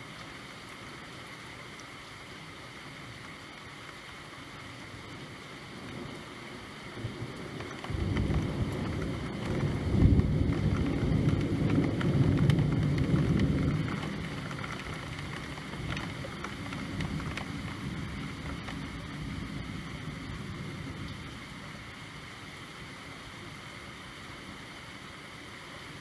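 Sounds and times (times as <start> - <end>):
low rain rumble: 0.0 - 26.0
rain drops ticking: 0.0 - 26.0.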